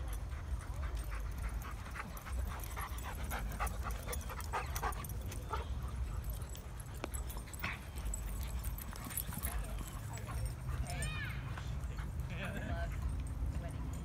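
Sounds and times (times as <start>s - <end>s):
dogs barking and yelping: 0.0s - 13.5s.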